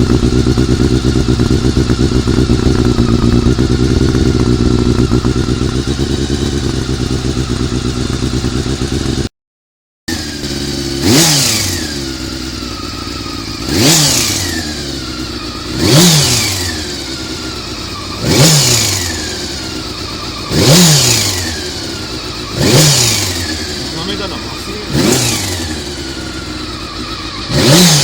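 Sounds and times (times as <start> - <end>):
motorcycle engine revving: 0.0 - 9.3, 10.1 - 28.0.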